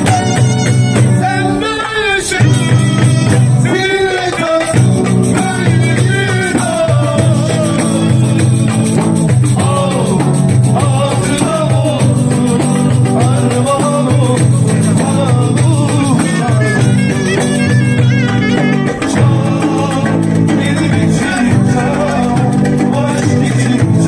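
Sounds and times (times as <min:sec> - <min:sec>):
street band playing: 0:00.0 - 0:24.0.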